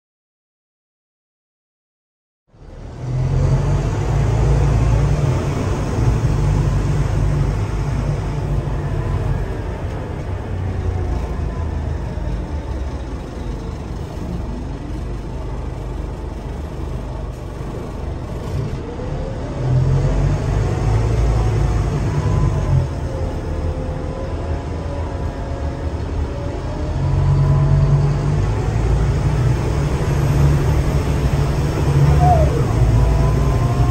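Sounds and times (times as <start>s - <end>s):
bus diesel engine rumbling: 2.5s - 33.9s.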